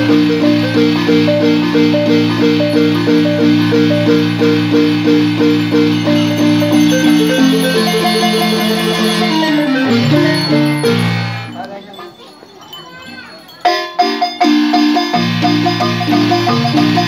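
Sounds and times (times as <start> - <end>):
marimba melody: 0.0 - 17.0.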